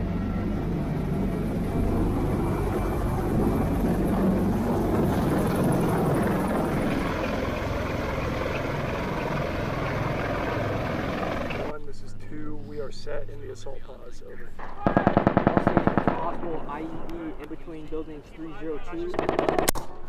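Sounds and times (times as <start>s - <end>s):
helicopter rotor and turbine roar: 0.0s - 19.8s.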